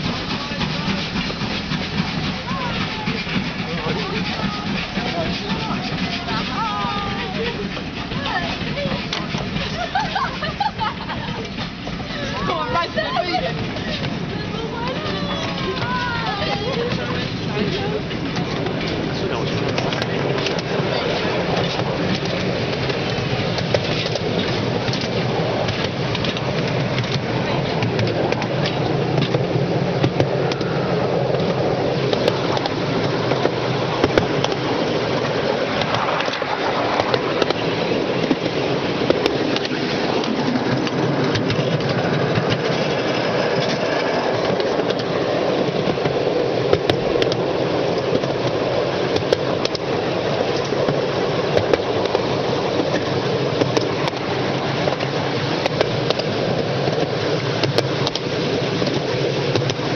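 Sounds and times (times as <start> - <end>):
small wheels rumbling on track: 0.0 - 59.9.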